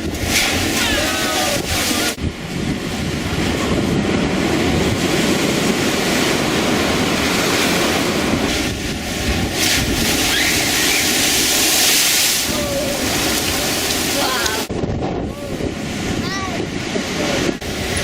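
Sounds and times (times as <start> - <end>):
heavy sea waves: 0.0 - 18.0
wind buffeting microphone: 0.0 - 18.0.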